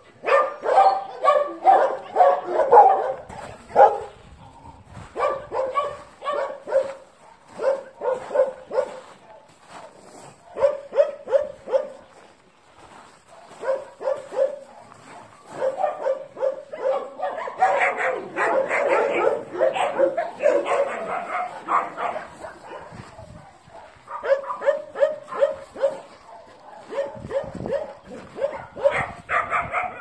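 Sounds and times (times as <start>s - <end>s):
dogs barking: 0.0s - 12.3s, 13.2s - 30.0s.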